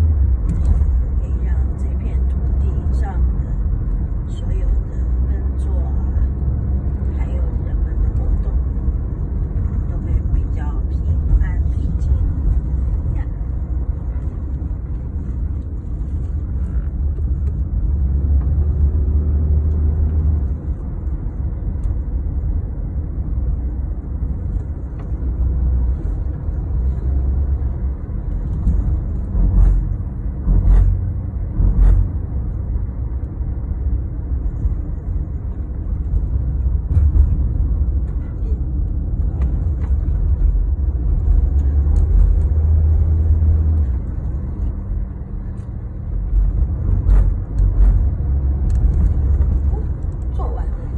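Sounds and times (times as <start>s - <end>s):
car rumbling on road: 0.0s - 50.9s.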